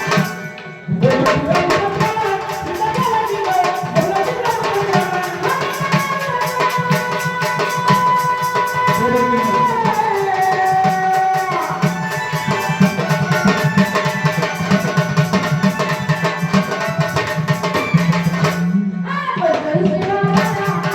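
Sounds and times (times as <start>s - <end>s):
tabla playing: 0.0s - 20.9s.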